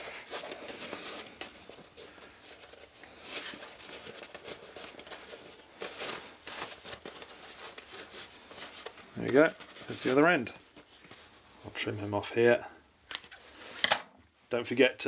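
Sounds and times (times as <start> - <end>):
canvas rustling: 0.0 - 12.3.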